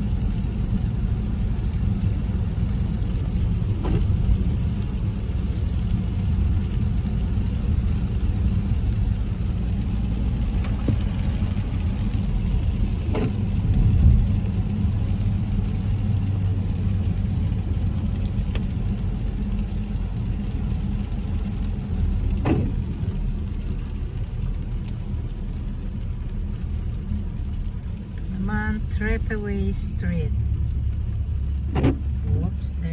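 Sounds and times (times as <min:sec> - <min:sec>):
car engine and tyres on wet road: 0:00.0 - 0:32.9.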